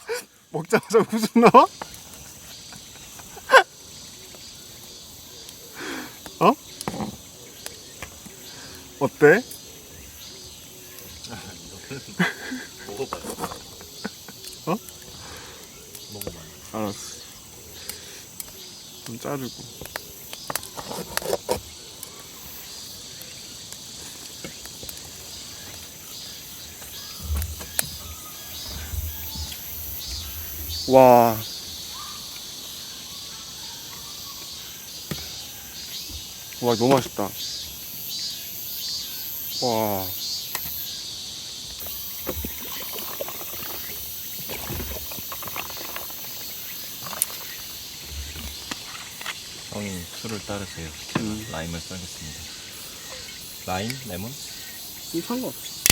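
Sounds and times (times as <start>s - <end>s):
insects chirping: 0.0s - 55.9s.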